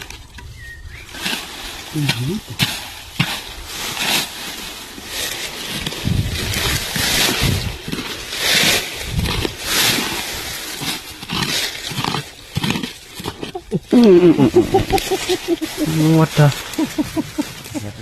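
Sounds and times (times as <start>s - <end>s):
hand hoe chopping dry soil: 1.1s - 17.8s.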